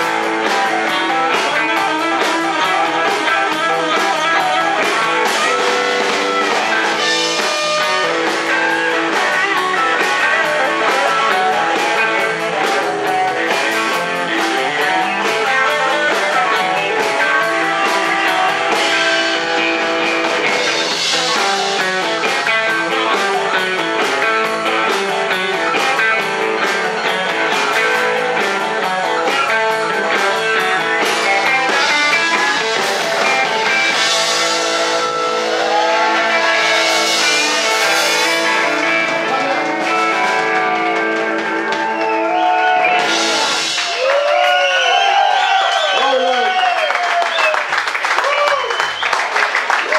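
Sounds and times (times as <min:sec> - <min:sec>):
electric guitars picked: 0:00.0 - 0:49.9
live rock band playing: 0:00.0 - 0:49.9.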